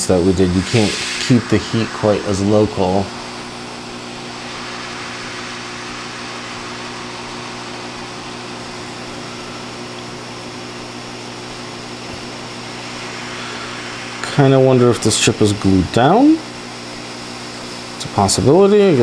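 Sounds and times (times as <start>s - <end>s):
hot air station blowing air: 0.0s - 19.0s.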